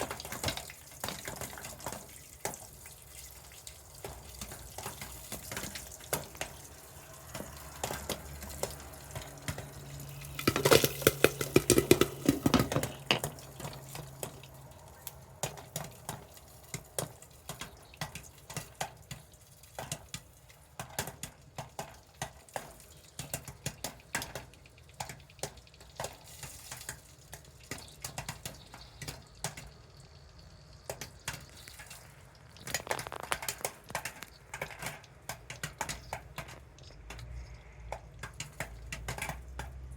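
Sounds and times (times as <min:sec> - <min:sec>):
popcorn popping: 0:00.0 - 0:02.8, 0:03.8 - 0:39.9.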